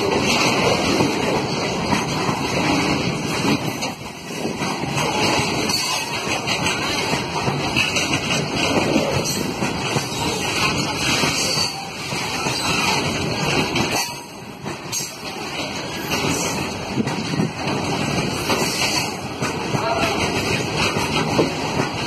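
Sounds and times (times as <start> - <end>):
steel wheels clattering on rails: 0.0 - 22.0.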